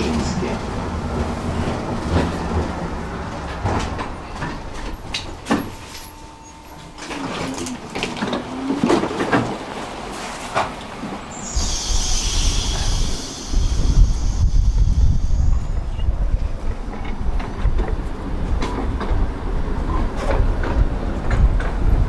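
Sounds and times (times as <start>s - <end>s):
tram wheels and motors rumbling: 0.0s - 22.0s.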